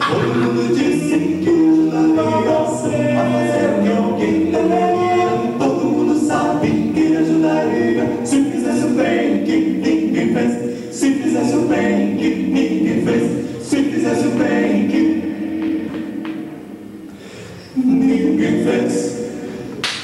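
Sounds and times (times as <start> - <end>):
male vocal quartet singing: 0.0 - 16.4, 17.7 - 19.8.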